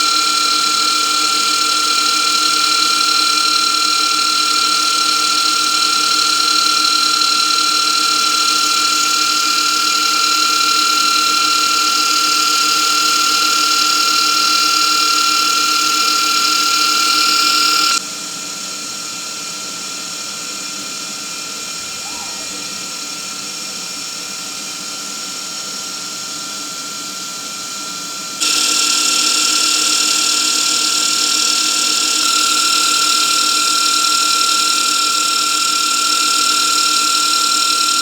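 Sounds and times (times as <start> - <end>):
power tool high-pitched whine: 0.0 - 38.0.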